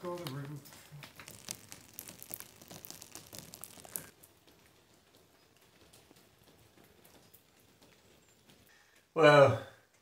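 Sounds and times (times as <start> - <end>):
raindrops hitting wet ground: 0.0 - 9.2
steady rain hiss: 0.0 - 9.4.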